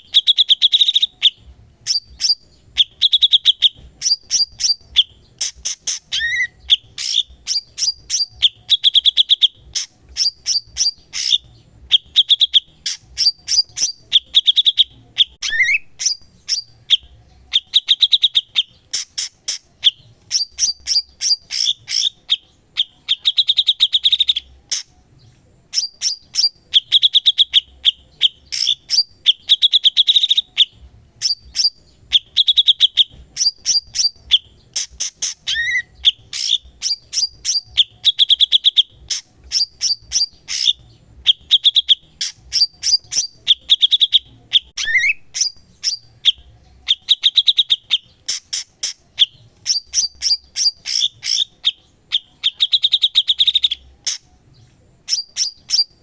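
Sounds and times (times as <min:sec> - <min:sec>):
bird buzzy trills: 0:00.0 - 0:54.4, 0:55.0 - 0:56.0
bird singing sharp chirps: 0:00.0 - 0:56.0.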